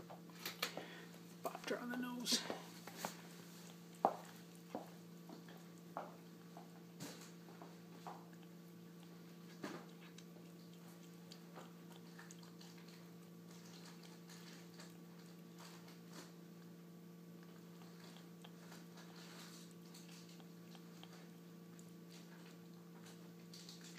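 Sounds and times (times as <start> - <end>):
steady low hum: 0.0 - 23.9
cat licking a spoon: 2.8 - 6.8, 7.8 - 23.9.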